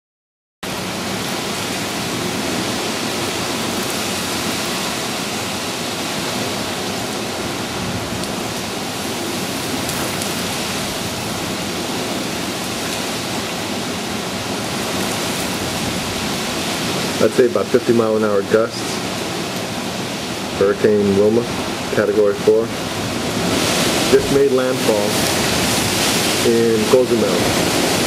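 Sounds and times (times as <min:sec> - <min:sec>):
strong wind with rain rushing: 0:00.6 - 0:28.0.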